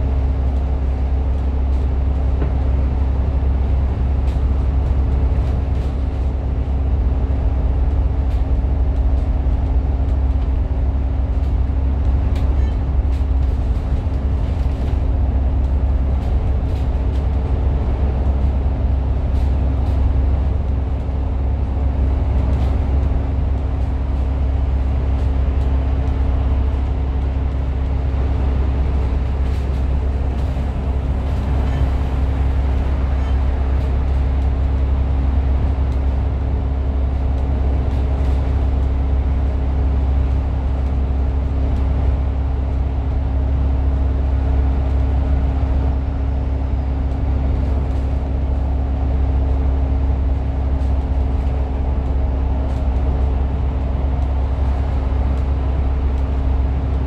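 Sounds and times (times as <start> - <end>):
bus engine and road rumble: 0.0 - 57.0
steady hum: 0.0 - 57.0.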